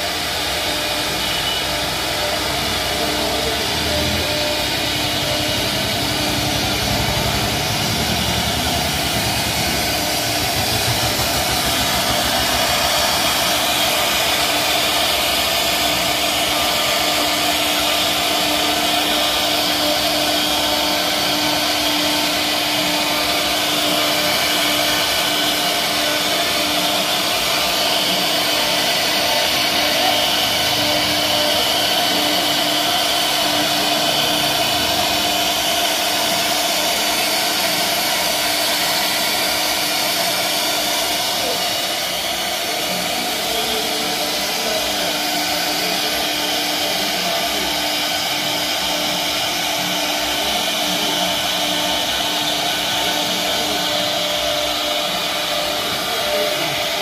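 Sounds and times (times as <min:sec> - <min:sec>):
bit cutting wood: 0:00.0 - 0:57.0
router spindle whine: 0:00.0 - 0:57.0.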